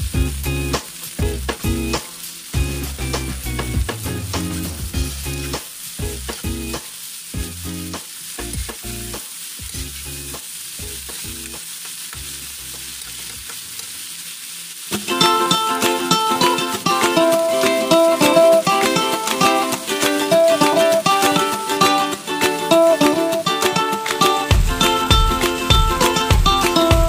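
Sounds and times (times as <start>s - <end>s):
vegetables sizzling in a wok: 0.0s - 27.0s.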